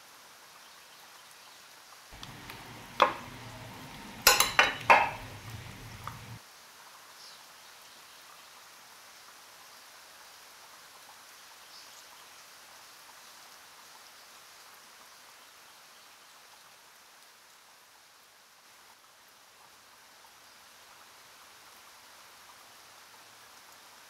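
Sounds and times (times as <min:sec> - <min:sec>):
faint background hiss: 0:00.0 - 0:24.0.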